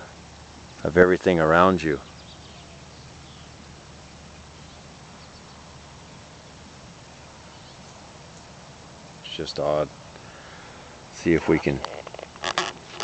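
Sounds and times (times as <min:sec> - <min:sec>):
distant birds chirping: 0:00.0 - 0:13.0
steady hiss: 0:00.0 - 0:13.0.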